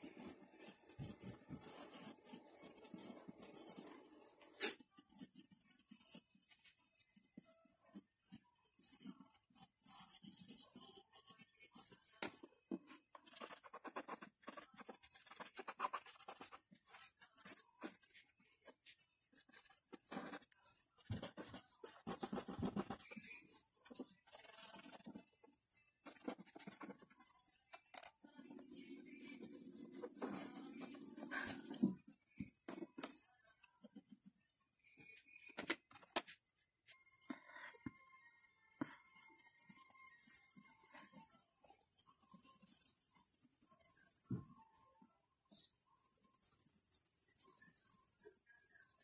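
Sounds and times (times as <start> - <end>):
pencil shading on paper: 0.0 - 34.5, 38.8 - 49.0.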